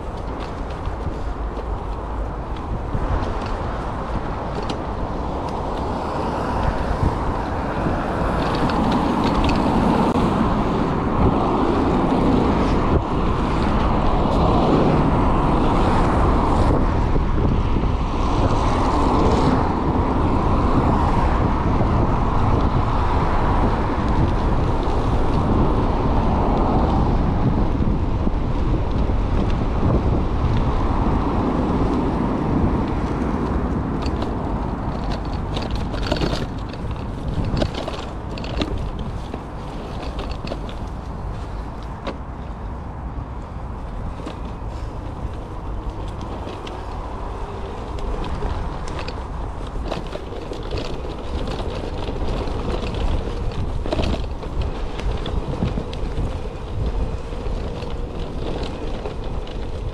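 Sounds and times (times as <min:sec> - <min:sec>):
mountain bike riding rumble: 0:00.0 - 0:59.9
wind rushing over microphone: 0:00.0 - 0:59.9.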